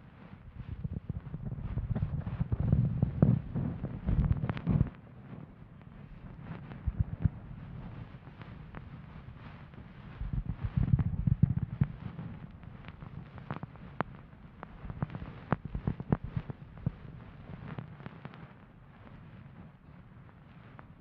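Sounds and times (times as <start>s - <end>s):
scratchy rustling against microphone: 0.1s - 21.0s.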